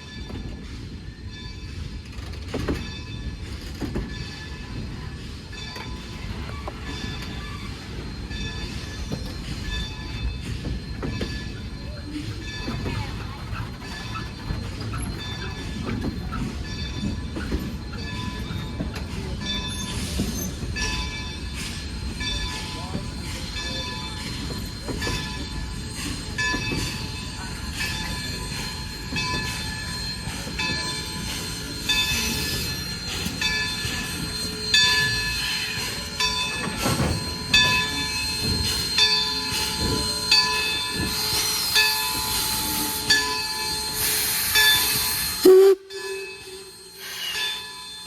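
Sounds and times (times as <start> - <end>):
locomotive bell ringing: 0.0 - 48.0
train wheels rumbling on rail: 0.0 - 48.0.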